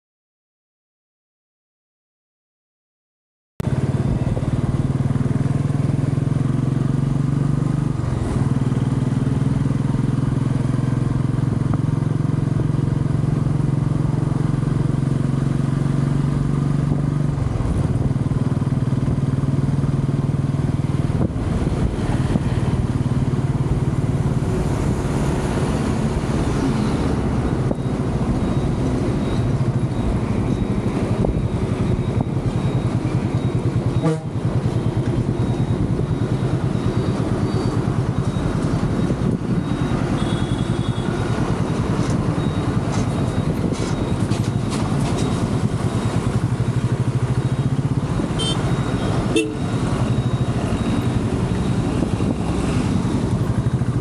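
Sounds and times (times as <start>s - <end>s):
motorcycle engine cruising: 3.6s - 54.0s
wind and road noise: 3.6s - 54.0s.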